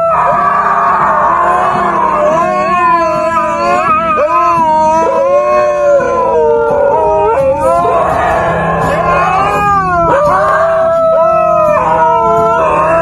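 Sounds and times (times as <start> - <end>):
animal howling: 0.0 - 13.0.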